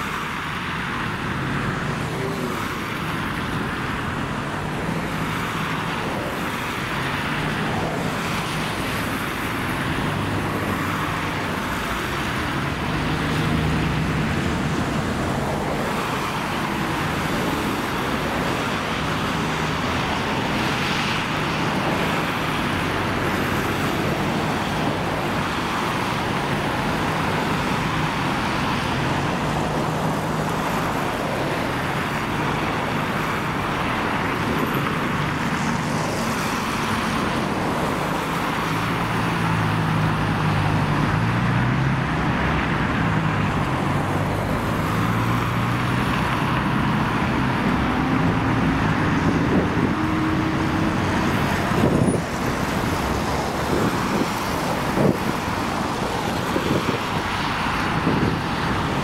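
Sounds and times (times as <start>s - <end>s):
city road traffic: 0.0s - 59.0s.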